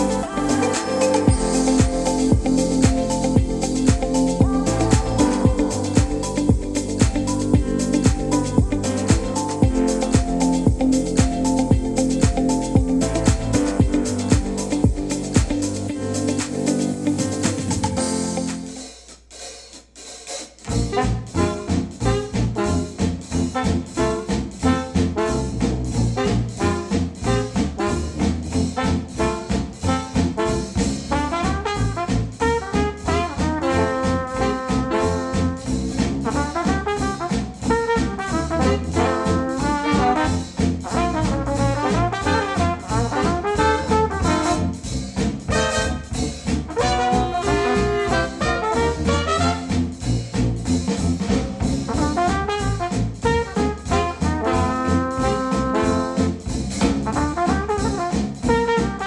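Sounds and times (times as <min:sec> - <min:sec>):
brass band music over speakers: 0:00.0 - 0:18.9, 0:20.6 - 0:59.0.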